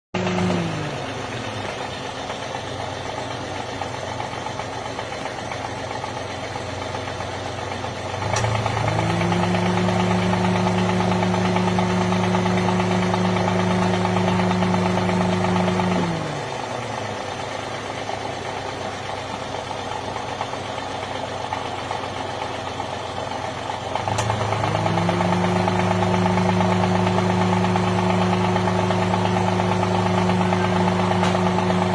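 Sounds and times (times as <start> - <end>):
car engine idling and revving: 0.1 - 31.9.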